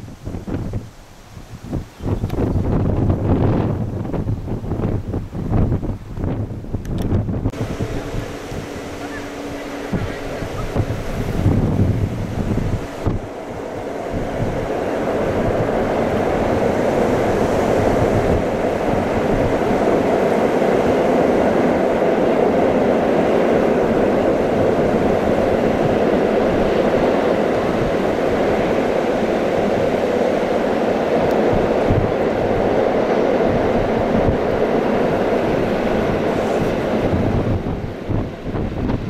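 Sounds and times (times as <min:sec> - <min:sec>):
train rumbling on rails: 0:00.0 - 0:39.0
wind on microphone: 0:00.0 - 0:39.0.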